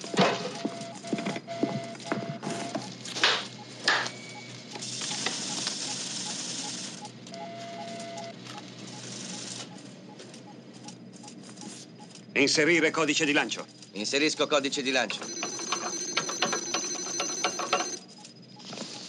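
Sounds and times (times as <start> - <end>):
steady console beep: 0.0 - 12.1, 14.3 - 19.0.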